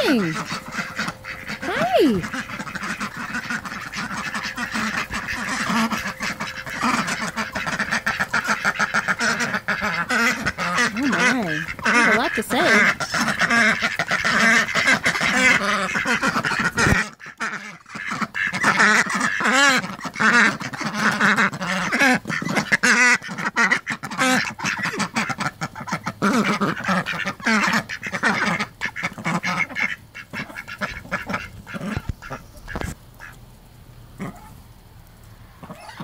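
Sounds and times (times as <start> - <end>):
ducks quacking: 0.0 - 33.4, 34.2 - 34.6, 35.6 - 36.0.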